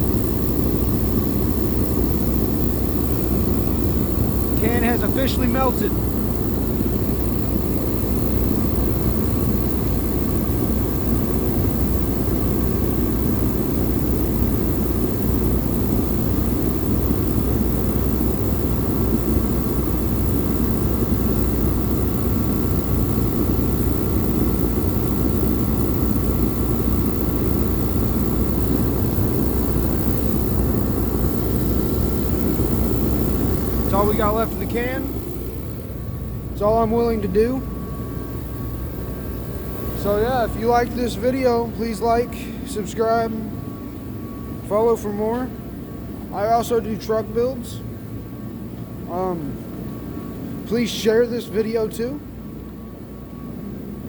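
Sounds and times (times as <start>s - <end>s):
heater fan and burner rushing: 0.0s - 54.0s.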